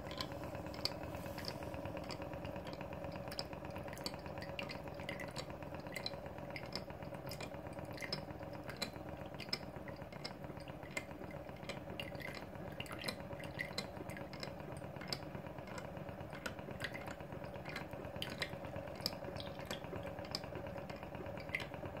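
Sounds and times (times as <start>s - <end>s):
water dripping into basin: 0.0s - 22.0s.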